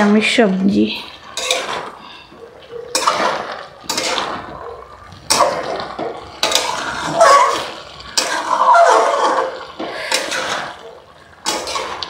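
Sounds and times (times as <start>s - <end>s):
metal spatula scraping wet curry: 1.0s - 12.0s.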